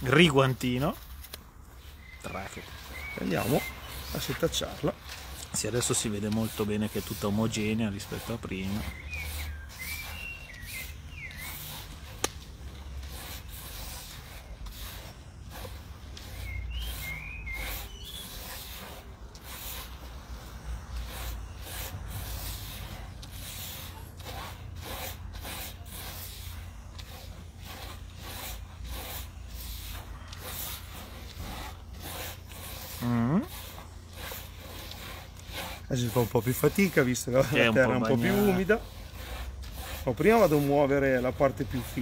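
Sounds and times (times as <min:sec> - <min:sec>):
earth scraping through mesh sieve: 0:00.0 - 0:42.0.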